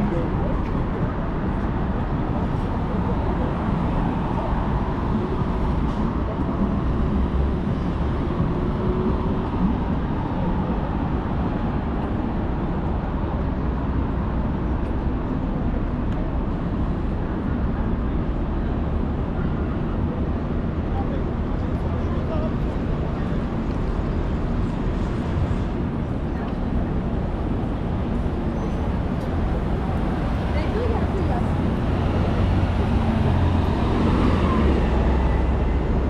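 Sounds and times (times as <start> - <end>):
low rumble of traffic: 0.0 - 36.0.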